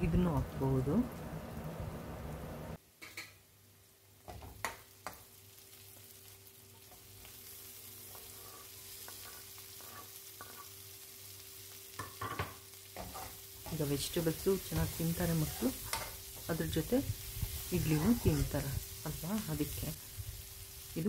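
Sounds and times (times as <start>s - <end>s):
vegetables sizzling in pan: 0.0s - 21.0s.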